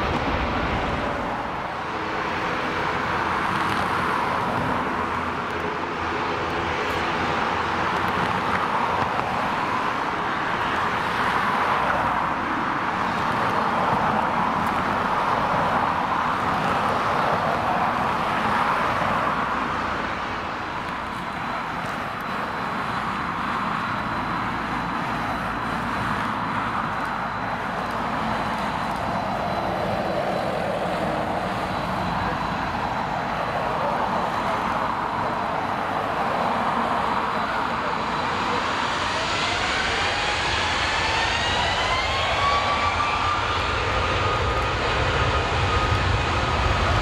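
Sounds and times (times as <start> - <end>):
jet engines rumbling and whining: 0.0 - 47.0.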